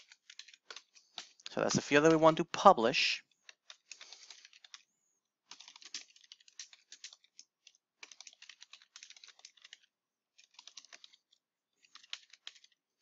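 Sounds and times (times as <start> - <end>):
faint computer keyboard typing: 0.0 - 2.3, 3.3 - 13.0.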